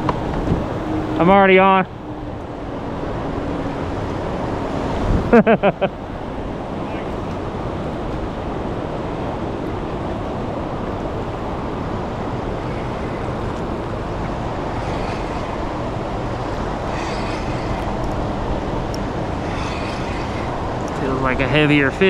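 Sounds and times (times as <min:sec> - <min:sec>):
wind on microphone: 0:00.0 - 0:01.2, 0:01.9 - 0:22.0
river current rushing: 0:00.0 - 0:22.0.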